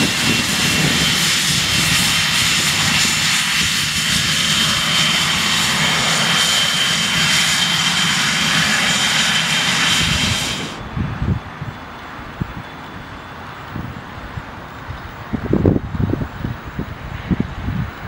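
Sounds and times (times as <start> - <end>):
jet engines taxiing: 0.0 - 18.0.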